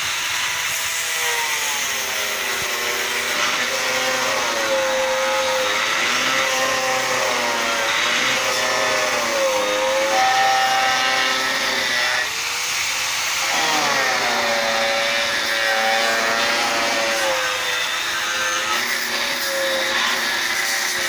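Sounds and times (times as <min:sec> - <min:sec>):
angle grinder cutting wood: 0:00.0 - 0:21.0.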